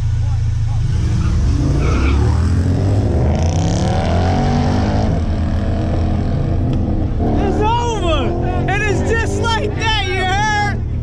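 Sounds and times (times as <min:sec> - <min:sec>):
cars accelerating hard: 0:00.7 - 0:11.0.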